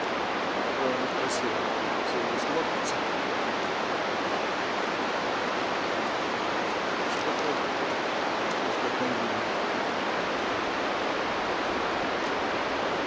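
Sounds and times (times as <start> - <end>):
fast river rushing: 0.0 - 13.0.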